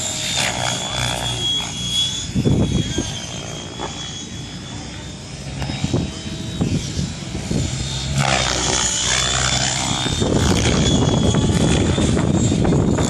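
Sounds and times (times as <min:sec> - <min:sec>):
rc helicopter whine: 0:00.0 - 0:13.0
rotor blades rushing: 0:00.0 - 0:13.0.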